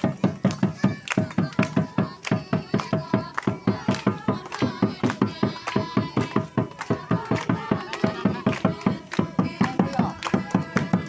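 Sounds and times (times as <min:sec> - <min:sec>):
hand drums fast beat: 0:00.0 - 0:11.0
voices: 0:00.0 - 0:11.0.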